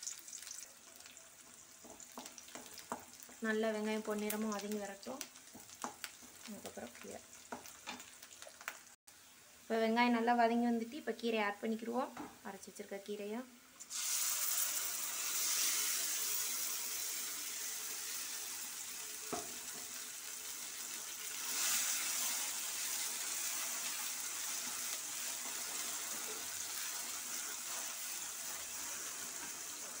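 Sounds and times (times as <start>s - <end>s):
oil and onions sizzling: 0.0s - 30.0s.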